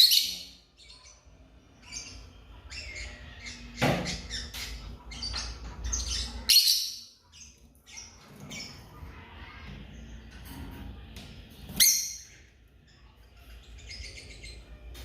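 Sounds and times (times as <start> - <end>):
lovebirds chirping and squawking: 0.0 - 15.0.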